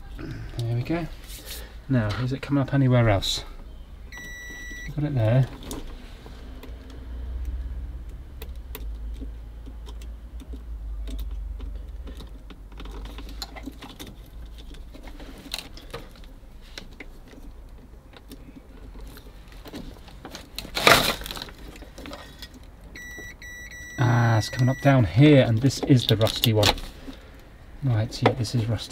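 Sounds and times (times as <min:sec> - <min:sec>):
wiring connectors clicking and rattling: 0:04.2 - 0:28.6.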